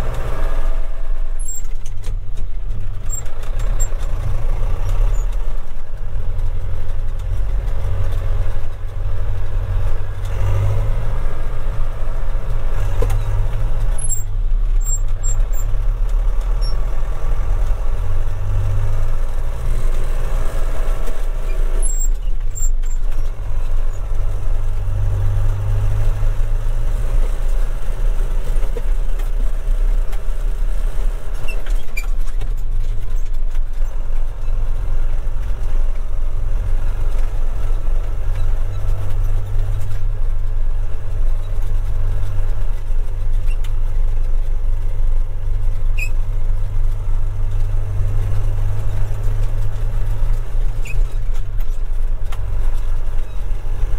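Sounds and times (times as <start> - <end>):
tractor diesel engine droning: 0.0 - 53.9.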